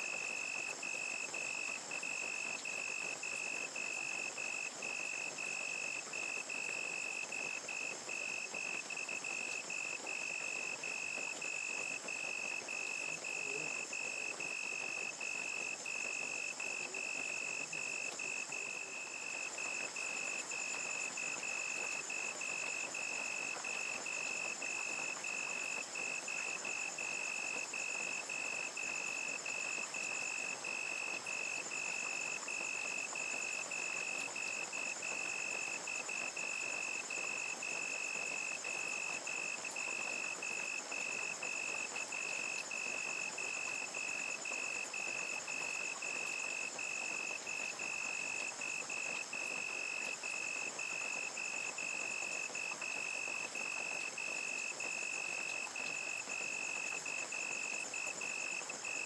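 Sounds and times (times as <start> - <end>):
crickets chirping: 0.0 - 59.0
rain falling: 0.0 - 59.0
high insect trill: 0.1 - 59.0.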